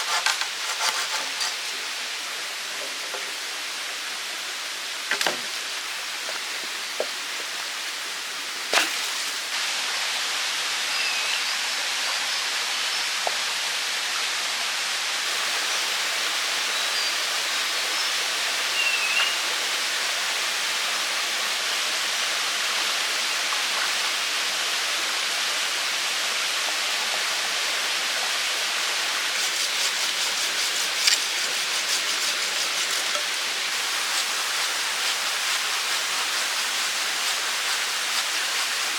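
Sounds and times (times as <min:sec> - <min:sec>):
running water: 0:00.0 - 0:09.8, 0:15.2 - 0:25.2, 0:25.8 - 0:38.9.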